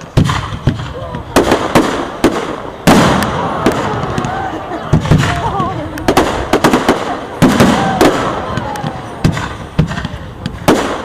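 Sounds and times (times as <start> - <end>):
crowd voices: 0.0 - 11.0
fireworks bangs: 0.0 - 11.0
fireworks crackle: 0.0 - 11.0.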